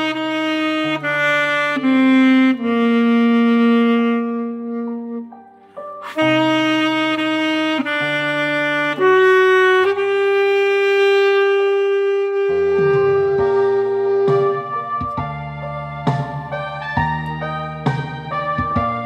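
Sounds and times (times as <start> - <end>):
bass and keyboard backing: 0.0 - 19.0
reedy lead instrument melody: 0.0 - 19.0.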